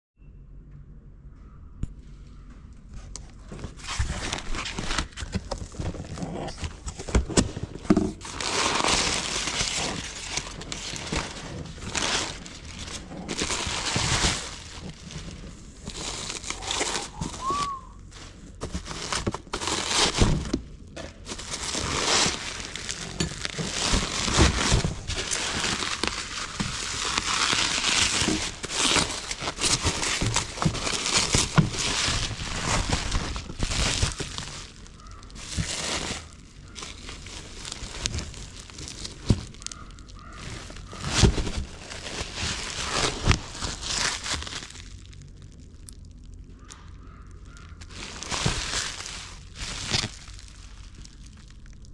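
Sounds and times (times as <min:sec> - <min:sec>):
bubble wrap and cardboard crinkling: 0:02.8 - 0:51.9.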